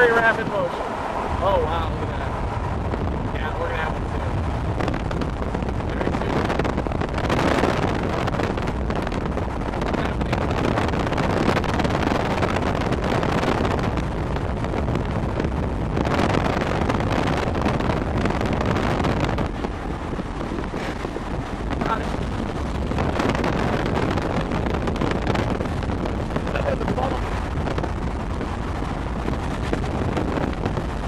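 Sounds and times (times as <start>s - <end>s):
vehicle driving rumble: 0.0s - 31.0s
wind buffeting microphone: 0.0s - 31.0s.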